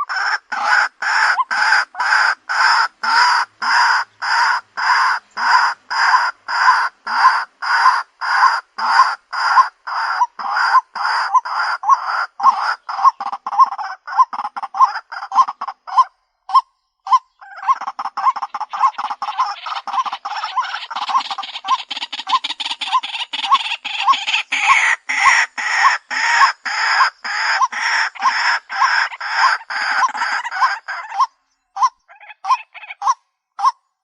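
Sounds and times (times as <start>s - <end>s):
bird harsh repeated calls: 0.0s - 34.0s.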